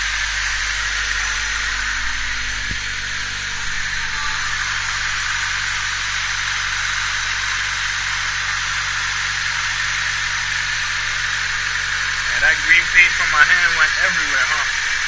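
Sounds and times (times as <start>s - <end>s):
car engine idling: 0.0s - 15.0s
continuous even hiss: 0.0s - 15.0s.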